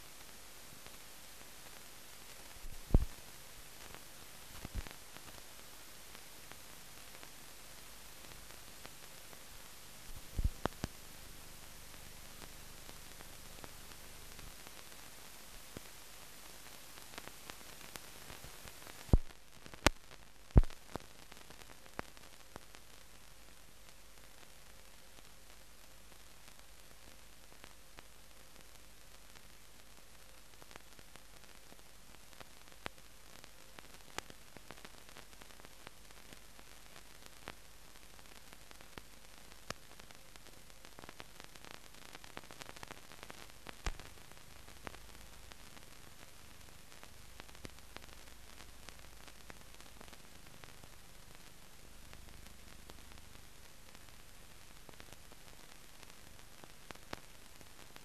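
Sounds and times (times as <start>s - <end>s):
faint film hiss: 0.0s - 58.0s
clicks and crackles: 0.2s - 23.3s, 27.6s - 58.0s.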